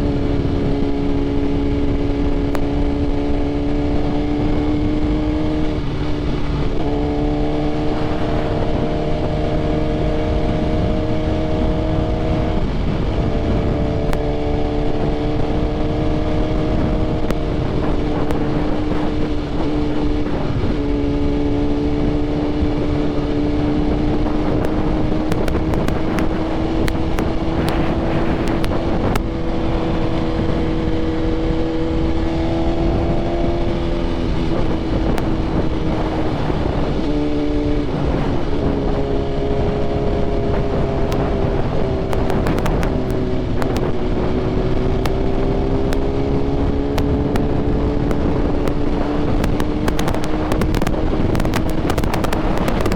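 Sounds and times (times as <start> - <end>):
motorcycle engine cruising: 0.0 - 52.9
wind rush: 0.0 - 52.9.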